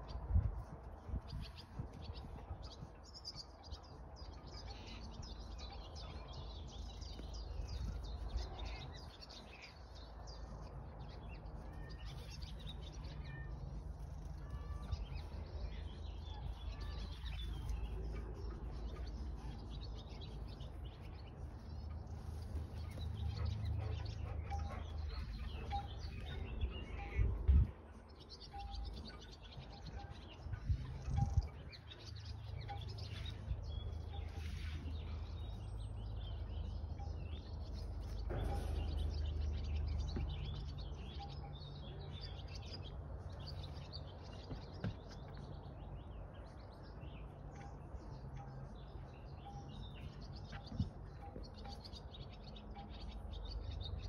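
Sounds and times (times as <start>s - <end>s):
small birds chirping: 0.0s - 54.0s
steady low rumble: 5.0s - 54.0s.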